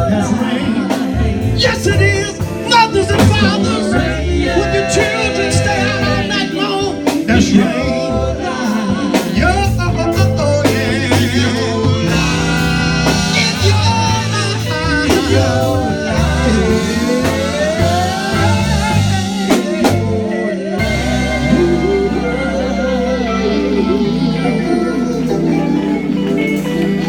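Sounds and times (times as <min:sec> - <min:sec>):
gospel band playing: 0:00.0 - 0:27.0
person singing: 0:00.0 - 0:27.0.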